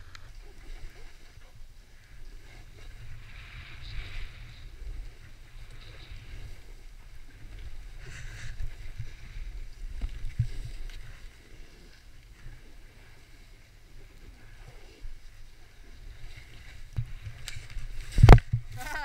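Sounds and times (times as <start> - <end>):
wind rumbling on microphone: 0.0 - 19.0
snowboard carving through snow: 2.2 - 19.0.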